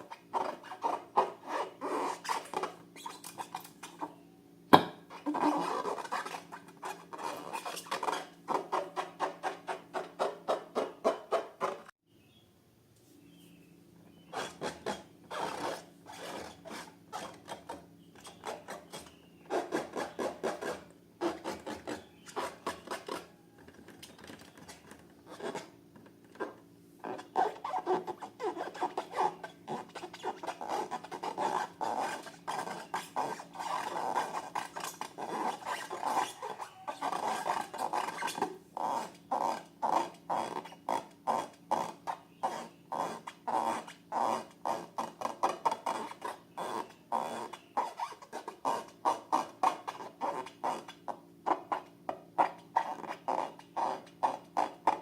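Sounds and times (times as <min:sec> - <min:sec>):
rubbing scrapes: 0:00.0 - 0:04.2, 0:05.1 - 0:11.9, 0:14.3 - 0:55.0.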